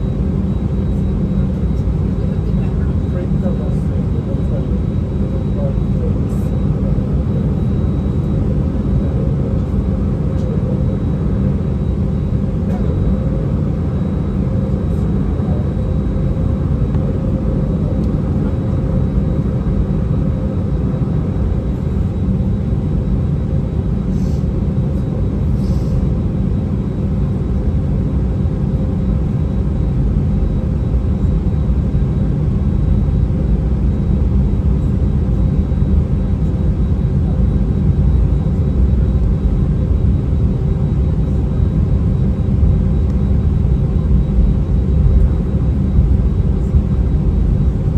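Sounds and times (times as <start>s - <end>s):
jet engine rumble in cabin: 0.0s - 47.9s.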